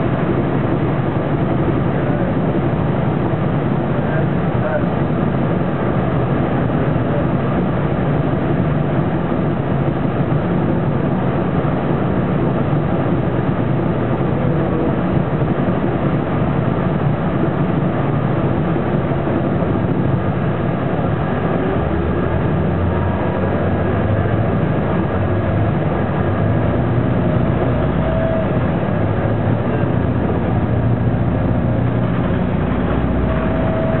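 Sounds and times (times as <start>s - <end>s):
air conditioning: 0.0s - 34.0s
bus diesel engine running: 0.0s - 34.0s
road noise: 0.0s - 34.0s.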